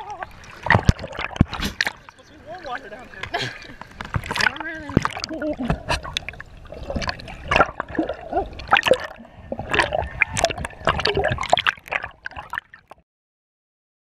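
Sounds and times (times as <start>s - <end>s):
seawater sloshing and splashing: 0.0s - 13.0s.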